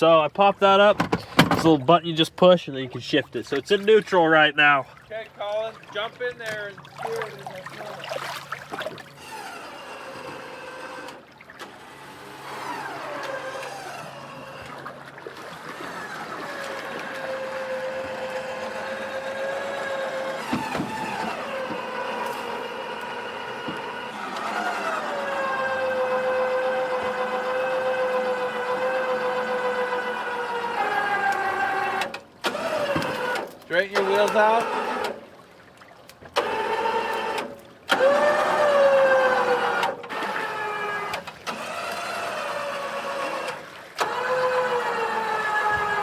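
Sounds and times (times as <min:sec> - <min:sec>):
winch whining: 0:00.7 - 0:35.3, 0:36.1 - 0:46.0.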